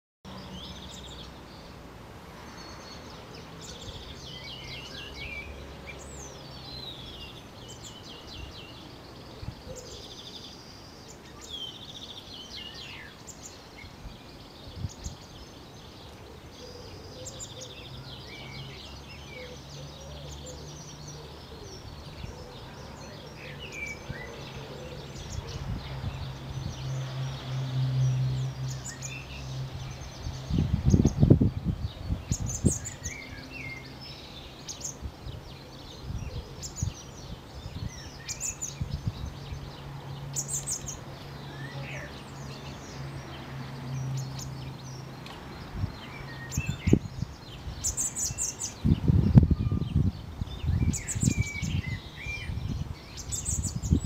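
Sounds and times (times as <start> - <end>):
songbirds singing and trilling: 0.3 - 54.0.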